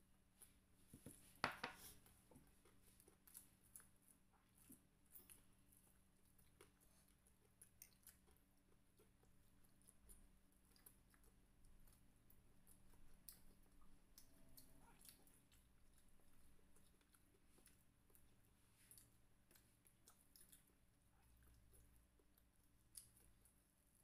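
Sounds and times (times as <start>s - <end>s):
chewing fried chicken: 1.9s - 24.0s.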